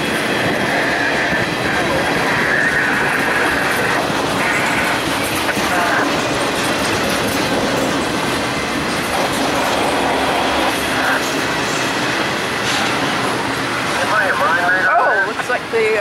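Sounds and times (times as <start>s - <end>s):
rail joints clickety-clack: 0.0s - 16.0s
train wheels rumbling on rails: 0.0s - 16.0s.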